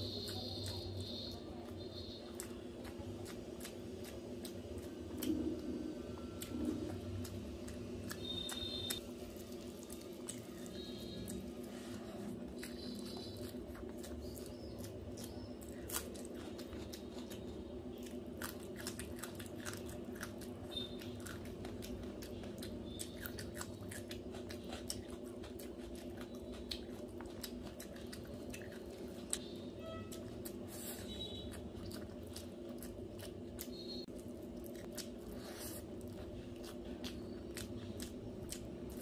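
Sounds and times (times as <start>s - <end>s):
chewing with mouth clicks: 0.0s - 39.0s.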